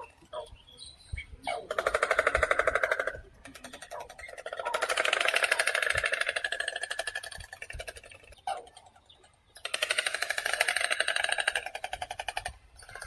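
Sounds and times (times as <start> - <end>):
stork bill clattering: 1.5 - 13.0.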